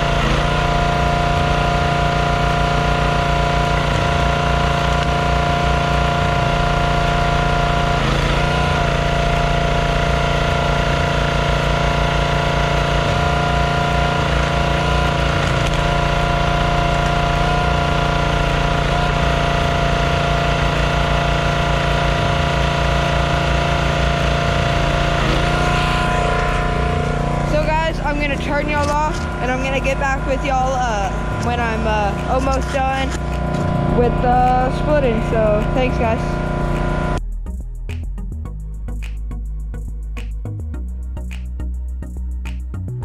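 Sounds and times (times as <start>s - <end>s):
log splitter engine running: 0.0s - 37.2s.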